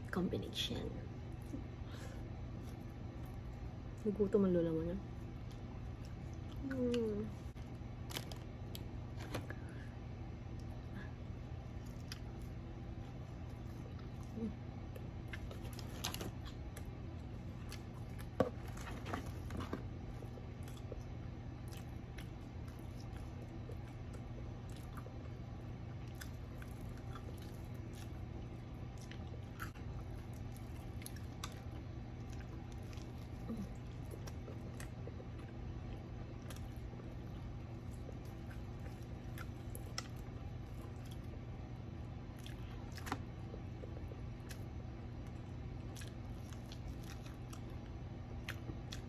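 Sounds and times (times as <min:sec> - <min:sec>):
low hum: 0:00.0 - 0:49.0
chewing crunchy food: 0:05.0 - 0:09.6, 0:10.5 - 0:49.0.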